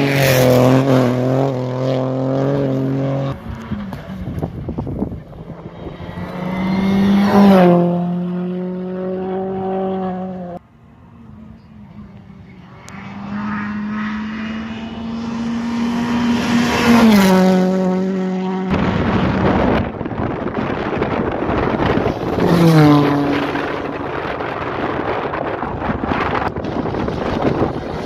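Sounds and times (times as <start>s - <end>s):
rally cars passing at speed: 0.0s - 28.0s.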